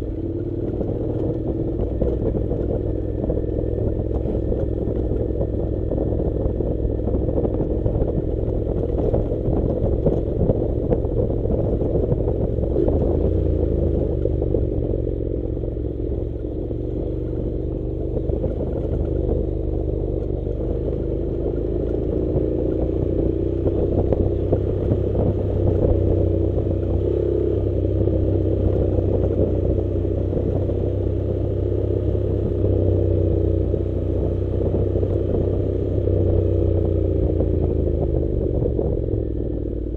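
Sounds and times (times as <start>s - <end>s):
motorcycle engine running: 0.0s - 39.9s
gravel clatter and rattle: 0.1s - 39.9s.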